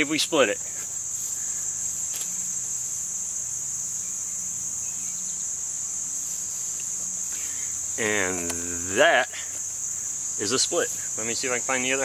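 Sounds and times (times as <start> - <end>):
insects droning high-pitched: 0.0 - 12.0.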